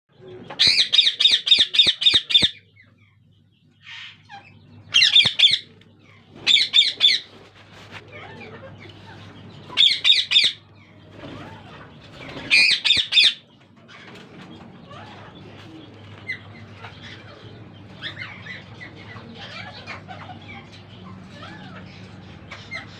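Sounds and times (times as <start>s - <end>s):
parakeets screeching: 0.5s - 3.2s, 3.8s - 7.5s, 8.1s - 22.9s.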